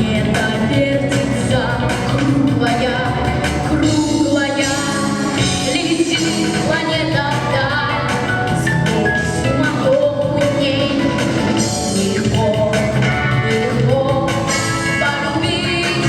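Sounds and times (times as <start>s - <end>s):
musical backing track: 0.0s - 16.0s
woman singing with vibrato: 0.0s - 16.0s.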